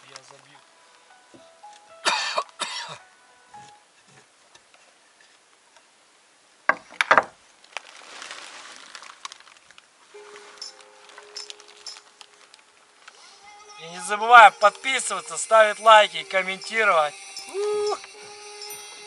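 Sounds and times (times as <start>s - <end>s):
soft hiss: 0.0s - 19.0s.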